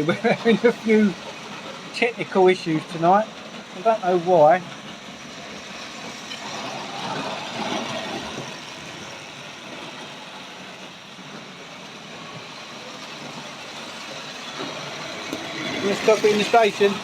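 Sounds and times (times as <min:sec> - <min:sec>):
model train motor whirring: 0:00.0 - 0:17.0.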